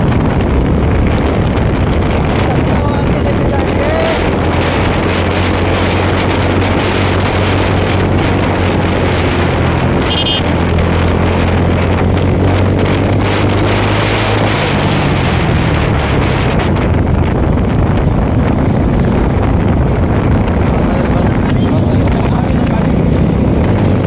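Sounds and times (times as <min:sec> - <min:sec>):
motorcycle engine running: 0:00.0 - 0:24.0
wind rush on microphone: 0:00.0 - 0:24.0.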